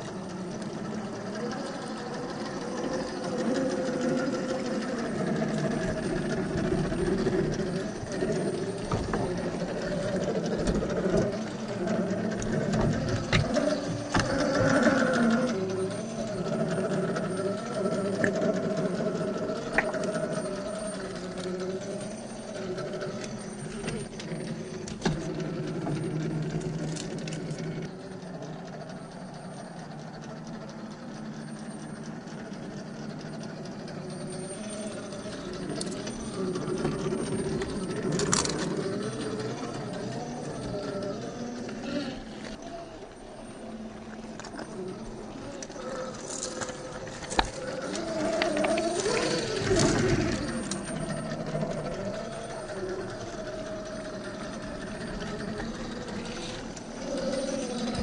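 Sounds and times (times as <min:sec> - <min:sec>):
electric motor and drivetrain whining: 0:00.0 - 0:58.0.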